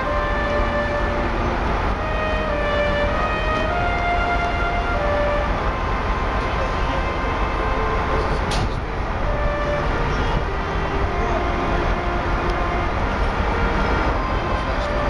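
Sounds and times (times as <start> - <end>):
faint voices: 0.0 - 15.0
low outdoor rumble: 0.0 - 15.0.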